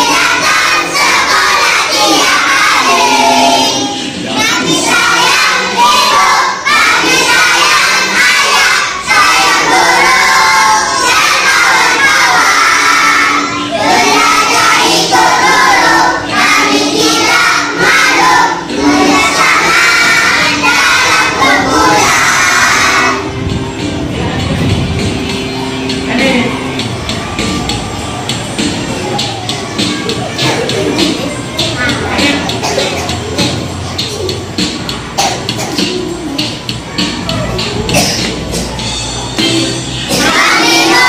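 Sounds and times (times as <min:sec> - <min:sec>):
young children singing loudly: 0:00.0 - 0:24.1, 0:26.7 - 0:41.0.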